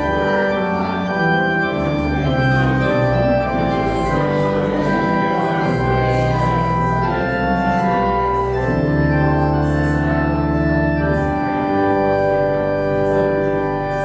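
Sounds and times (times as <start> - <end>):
church organ playing chords: 0.0 - 14.0.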